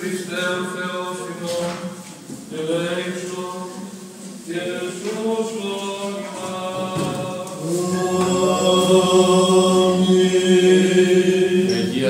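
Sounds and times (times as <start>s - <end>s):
voices chanting: 0.0s - 12.0s.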